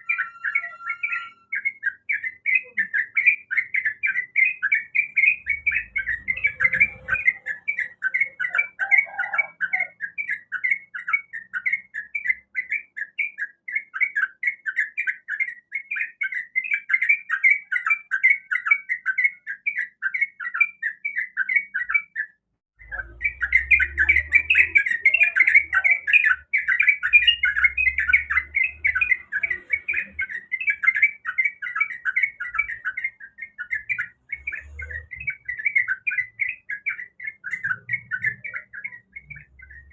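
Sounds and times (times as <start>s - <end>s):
bird singing bubbling chatter: 0.0s - 39.9s.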